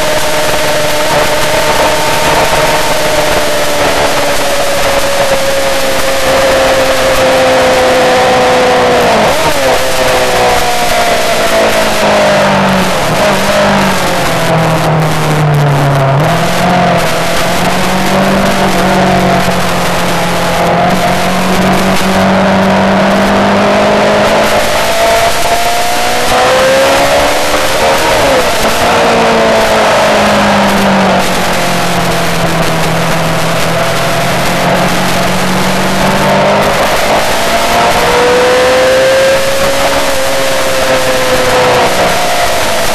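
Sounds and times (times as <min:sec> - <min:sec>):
motorcycle engine revving: 0:00.0 - 0:42.9
wind roaring: 0:00.0 - 0:42.9.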